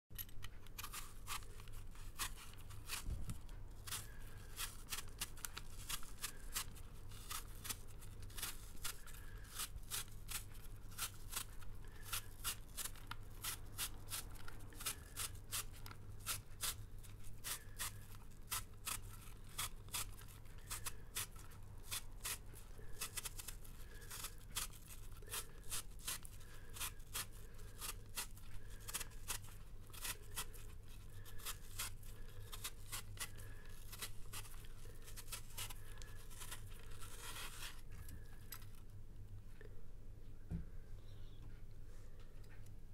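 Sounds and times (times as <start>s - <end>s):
peeler scraping apple skin: 0.1s - 38.8s
low room hum: 0.1s - 42.9s.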